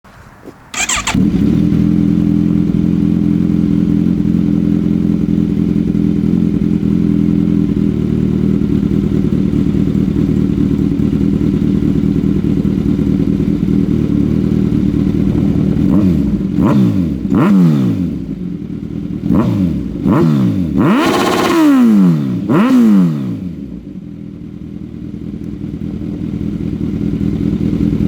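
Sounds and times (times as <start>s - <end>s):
motorcycle engine starting and idling: 0.1s - 28.0s.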